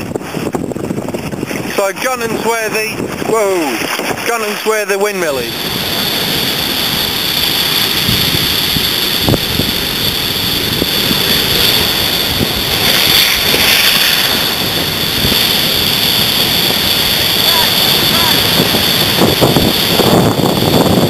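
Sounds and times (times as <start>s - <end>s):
wind over microphone: 0.0s - 21.0s
water hissing along hull: 3.1s - 21.0s.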